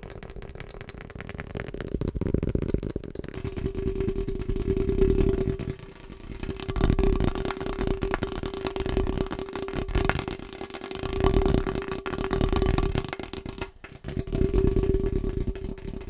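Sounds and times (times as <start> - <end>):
fast tapping on an object: 0.0 - 16.0.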